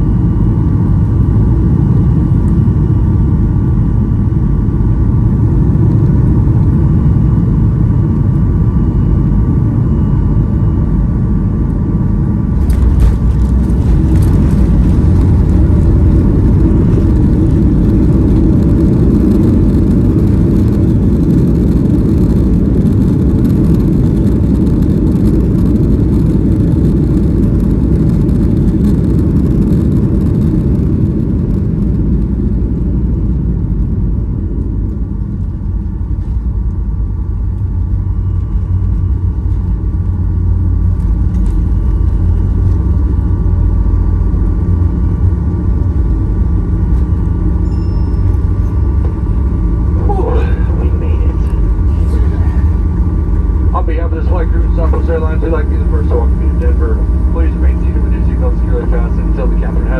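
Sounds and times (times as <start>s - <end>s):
jet engine rush: 0.0s - 36.2s, 37.5s - 59.9s
airplane cabin rumble: 0.0s - 59.9s.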